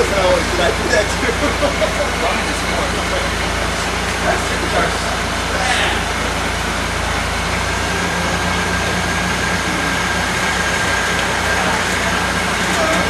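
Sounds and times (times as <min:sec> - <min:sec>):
mechanical running noise: 0:00.0 - 0:13.0
thin steady whine: 0:00.0 - 0:13.0.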